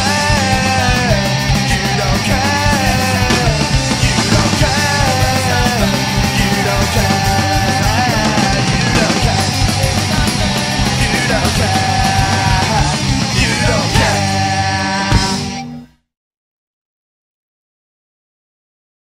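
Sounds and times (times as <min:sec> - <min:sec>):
pop-punk band playing: 0:00.0 - 0:15.8.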